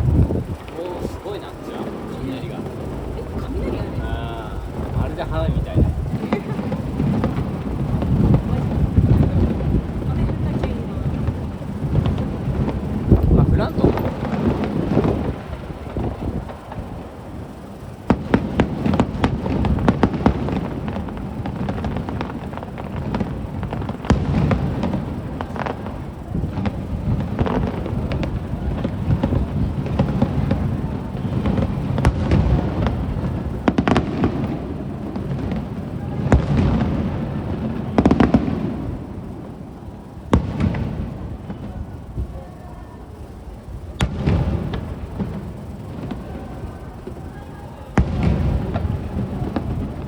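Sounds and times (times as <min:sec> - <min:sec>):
low rumble: 0:00.0 - 0:42.4
fireworks bangs: 0:00.0 - 0:50.0.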